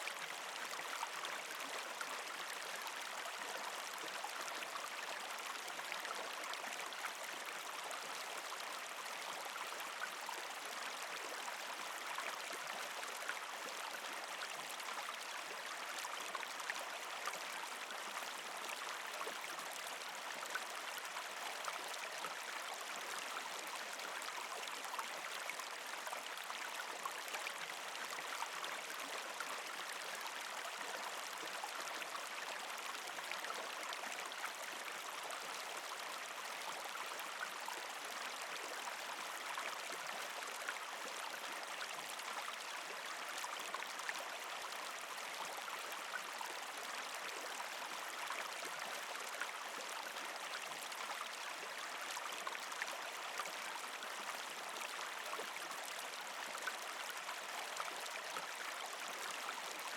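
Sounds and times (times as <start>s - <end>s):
creek flowing over rocks: 0.0s - 59.9s.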